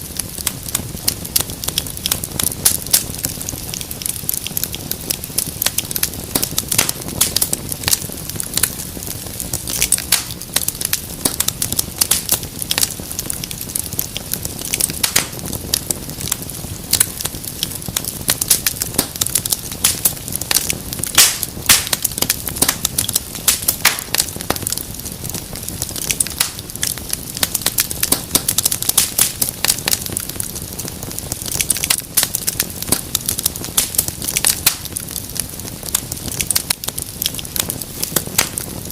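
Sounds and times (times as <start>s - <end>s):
low rush of flames: 0.0s - 38.9s
wood fire crackling and popping: 0.0s - 38.9s.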